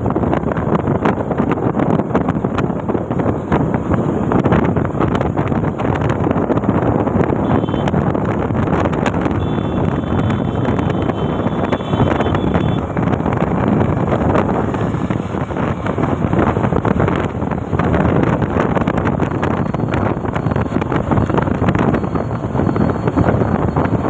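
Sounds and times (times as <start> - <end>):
road and engine noise: 0.0 - 24.0
wind buffeting microphone: 0.0 - 24.0.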